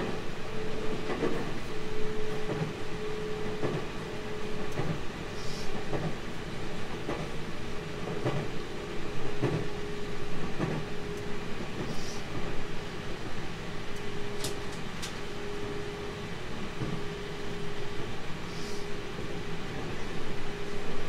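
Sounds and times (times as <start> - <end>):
train rumble with constant tone: 0.0 - 21.0.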